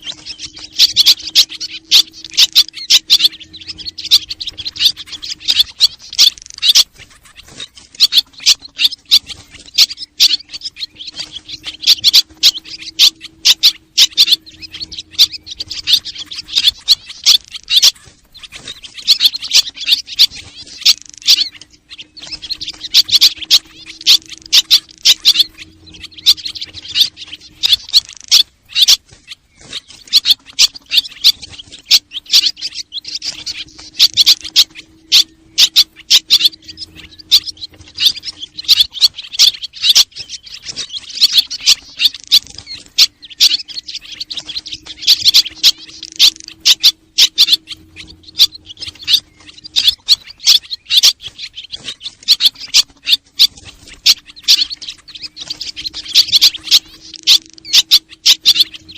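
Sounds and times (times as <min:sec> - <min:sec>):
faint low hum: 0:00.0 - 0:58.9
swallows twittering: 0:00.0 - 0:58.9.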